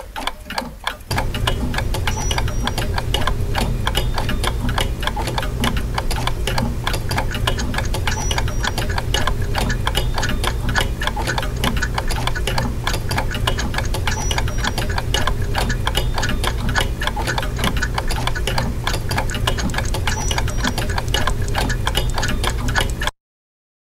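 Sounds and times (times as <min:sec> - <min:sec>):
rapid dense ticking: 0:00.0 - 0:23.1
steady low hum: 0:01.1 - 0:23.0.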